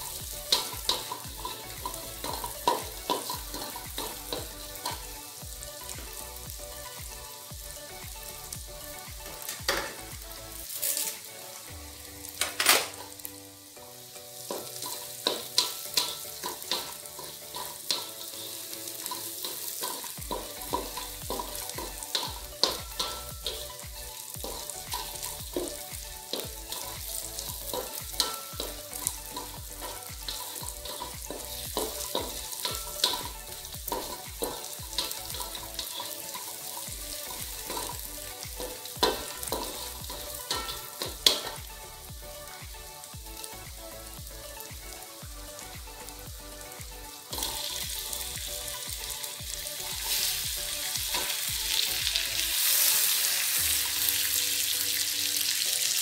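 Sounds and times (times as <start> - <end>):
spatula scraping and tapping wok: 0.0 - 13.3, 14.3 - 54.8
paste sizzling in oil: 0.0 - 56.0.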